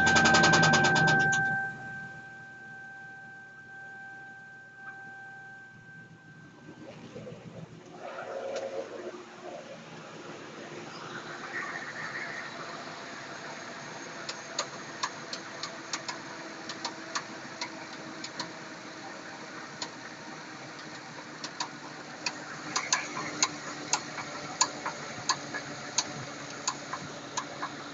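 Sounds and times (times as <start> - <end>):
engine running: 0.0 - 27.9.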